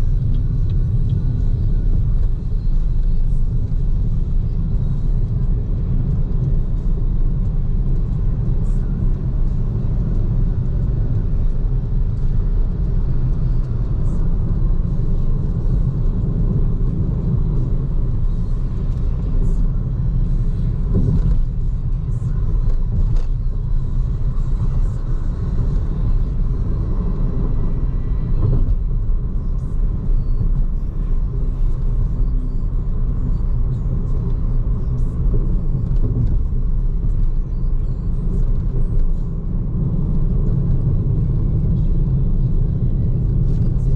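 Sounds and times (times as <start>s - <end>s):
road and tyre noise: 0.0s - 43.9s.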